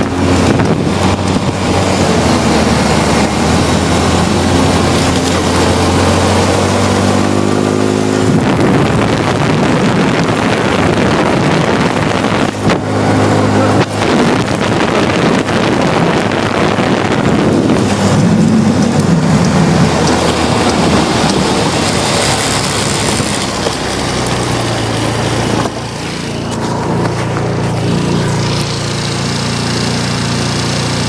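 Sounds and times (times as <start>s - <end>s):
engine running steadily: 0.0s - 31.0s
wind noise on microphone: 0.0s - 31.0s.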